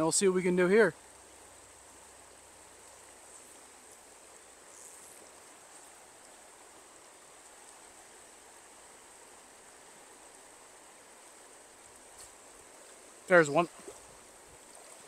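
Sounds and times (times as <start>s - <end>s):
faint stream water rushing: 0.0s - 15.0s.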